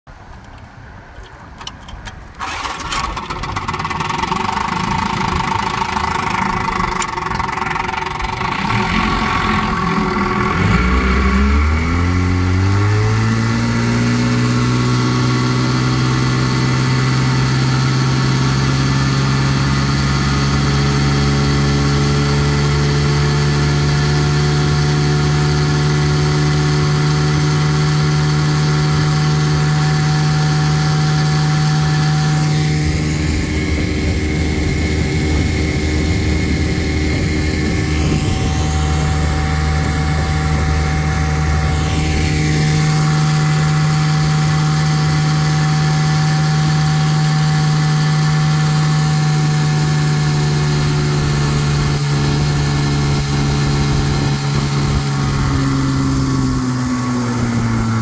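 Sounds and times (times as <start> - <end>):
outboard motor running: 2.4 - 58.0.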